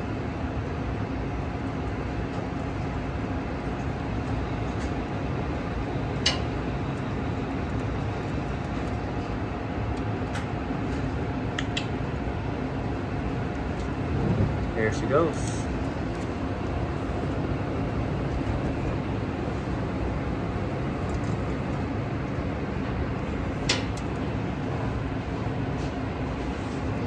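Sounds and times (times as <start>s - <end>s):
conveyor broiler hum and rush: 0.0s - 27.0s.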